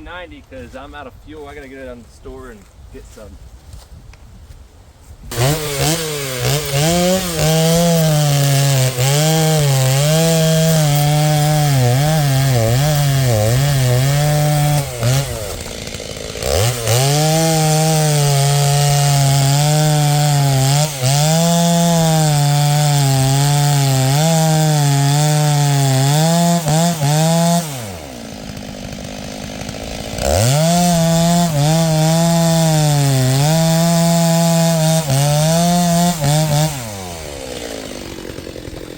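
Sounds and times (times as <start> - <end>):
chainsaw cutting logs: 5.3 - 38.9.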